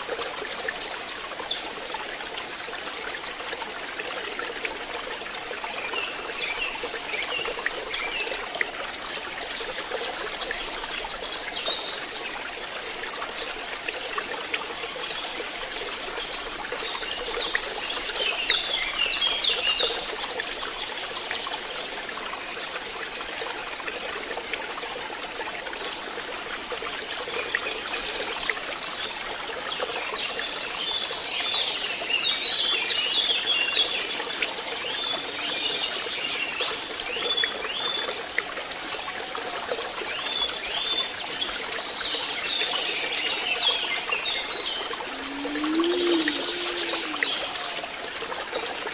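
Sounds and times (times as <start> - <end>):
water trickling into pond: 0.0 - 48.9.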